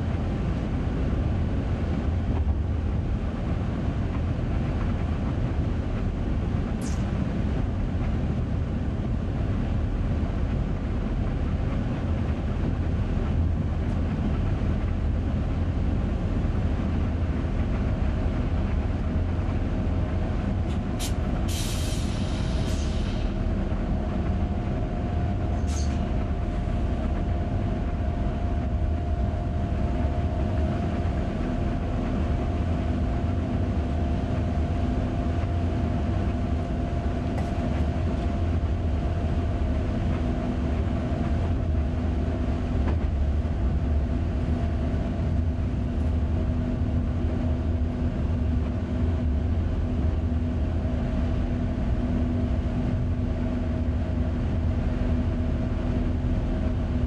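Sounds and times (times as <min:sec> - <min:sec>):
constant hum: 0:00.0 - 0:57.0
electric train rumbling on track: 0:00.0 - 0:57.0.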